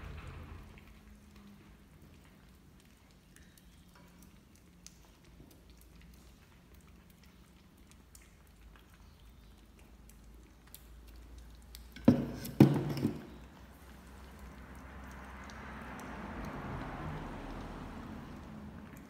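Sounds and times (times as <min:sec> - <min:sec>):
kittens lapping from bowls: 0:00.0 - 0:19.0.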